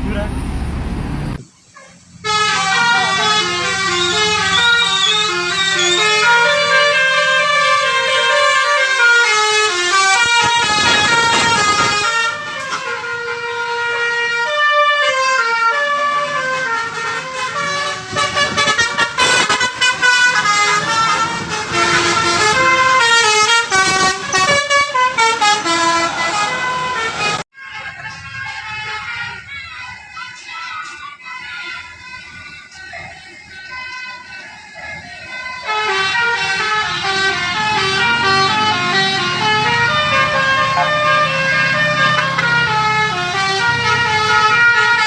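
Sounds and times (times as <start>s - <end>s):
multi-tone bus air horn tune: 1.8s - 30.3s, 33.5s - 45.0s.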